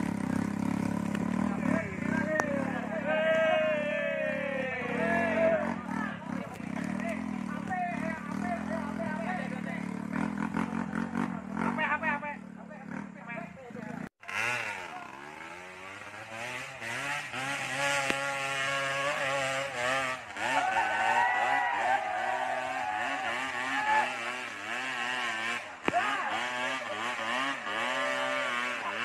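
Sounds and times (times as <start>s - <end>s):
vehicle engines revving: 0.0s - 29.0s.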